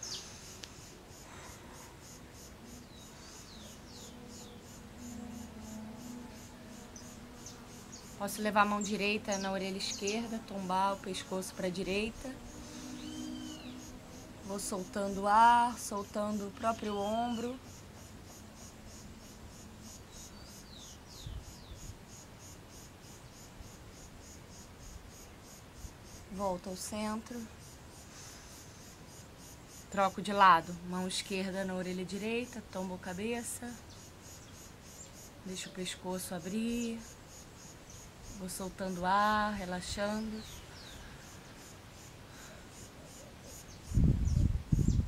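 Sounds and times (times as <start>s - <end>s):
faint buzzing hum: 0.0s - 45.0s
insects chirping: 0.0s - 45.0s.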